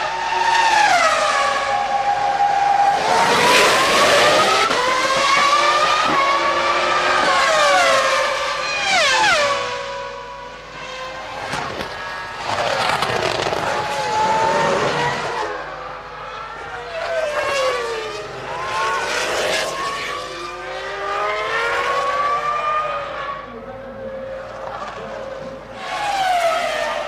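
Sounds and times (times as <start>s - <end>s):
racing car engines revving past: 0.0s - 27.0s.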